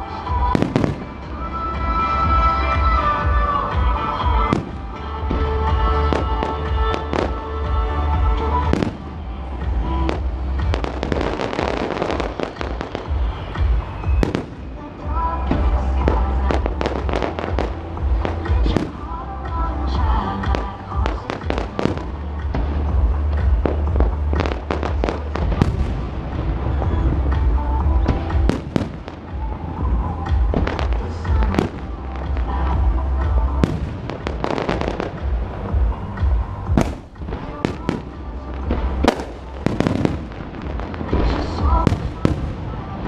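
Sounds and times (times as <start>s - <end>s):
firework bursts and crackles: 0.0s - 43.0s
music playing: 0.0s - 43.0s.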